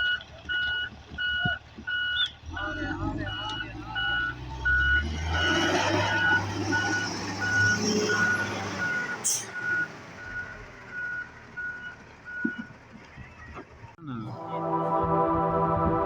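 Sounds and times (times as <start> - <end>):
vehicle backup alarm beeping: 0.0 - 13.5.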